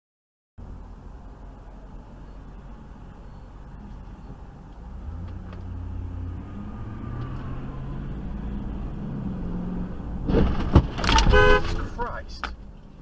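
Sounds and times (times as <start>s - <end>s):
car engine rumble: 0.6s - 13.0s
road noise: 0.6s - 13.0s.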